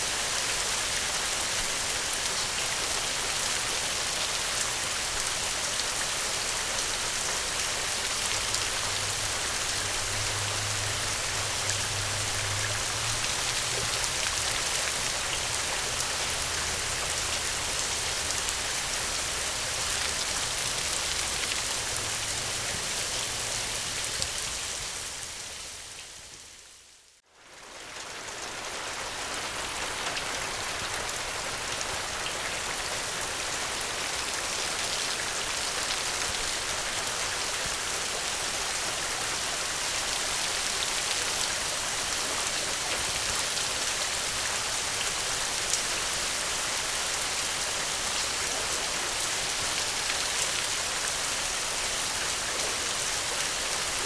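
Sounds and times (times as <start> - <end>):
gentle rain falling: 0.0 - 54.0.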